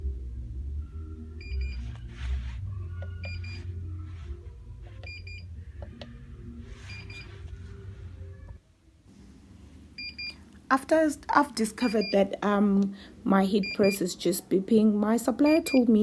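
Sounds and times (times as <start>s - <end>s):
low background music: 0.0s - 16.0s.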